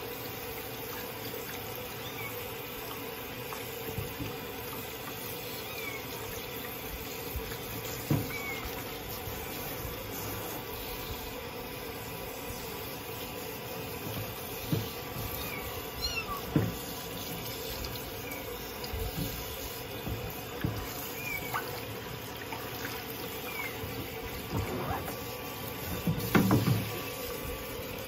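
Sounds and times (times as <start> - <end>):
shower water running into basin: 0.0 - 28.0.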